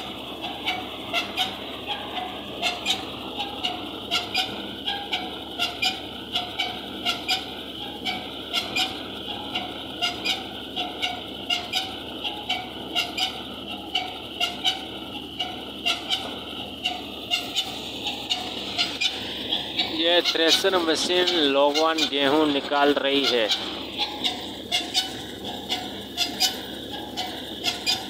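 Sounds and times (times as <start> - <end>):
squeaky mechanical clacking: 0.0 - 28.0
thresher running: 0.0 - 28.0.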